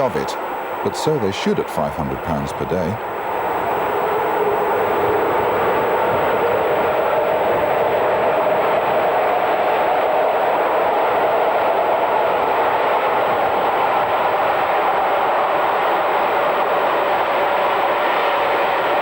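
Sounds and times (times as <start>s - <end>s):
diesel locomotive engine drone: 0.0s - 19.0s
rail noise: 0.0s - 19.0s.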